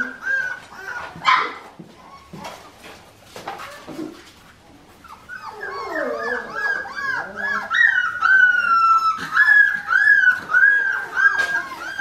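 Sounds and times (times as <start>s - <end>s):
puppies whining and yipping: 0.0s - 4.2s, 4.9s - 12.0s.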